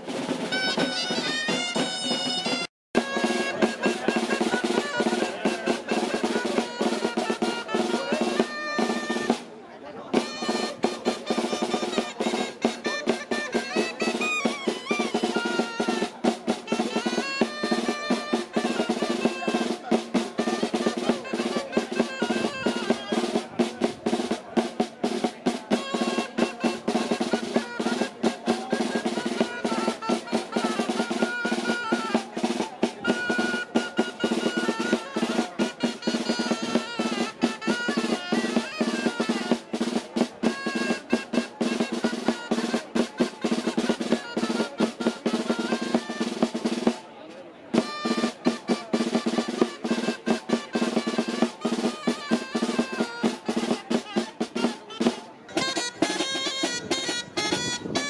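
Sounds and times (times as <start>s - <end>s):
snare drum rolls and beats: 0.0s - 58.0s.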